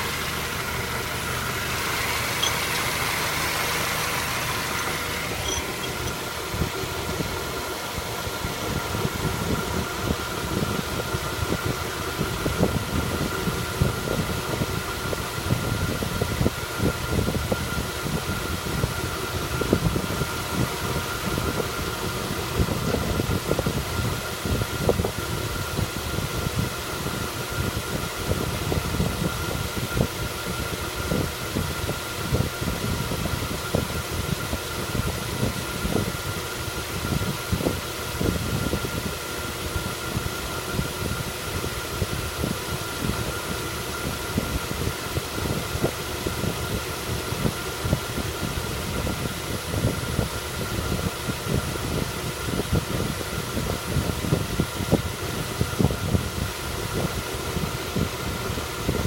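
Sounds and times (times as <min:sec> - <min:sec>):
car engine running: 0:00.0 - 0:51.5.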